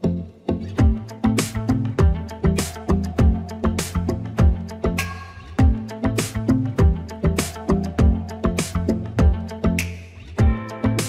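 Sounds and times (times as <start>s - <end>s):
bass line with steady beat: 0.0s - 11.0s
plucked string notes: 0.0s - 11.0s.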